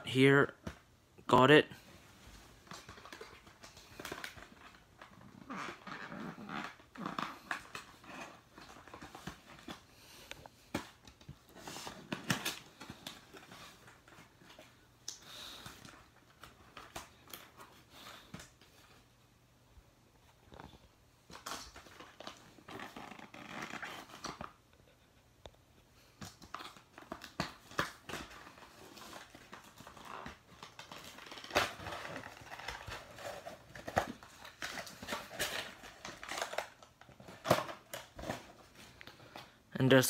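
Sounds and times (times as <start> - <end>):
cardboard and plastic rustling: 1.8 - 19.1, 20.2 - 25.2, 26.0 - 39.7.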